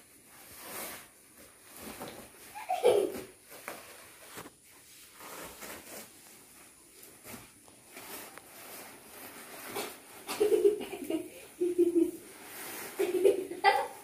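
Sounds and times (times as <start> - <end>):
plastic mat rustling and scraping: 0.0 - 14.0.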